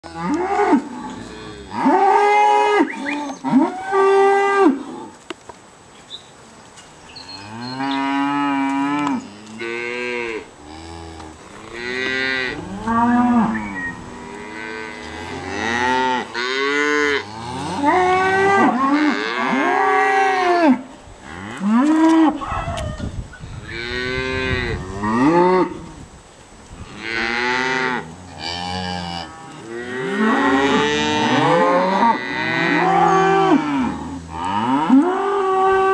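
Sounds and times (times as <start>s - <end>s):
cows mooing: 0.0s - 5.1s, 7.3s - 22.8s, 23.6s - 25.9s, 26.9s - 35.9s.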